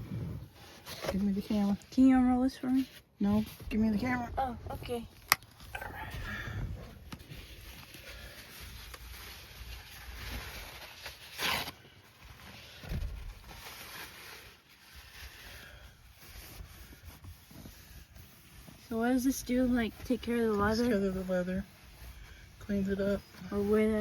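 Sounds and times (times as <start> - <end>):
rustling and scraping handling noises: 0.0 - 24.0.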